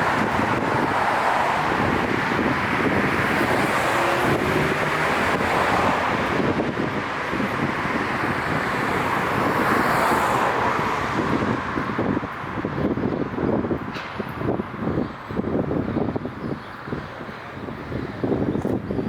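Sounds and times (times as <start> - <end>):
cars passing: 0.0 - 19.0.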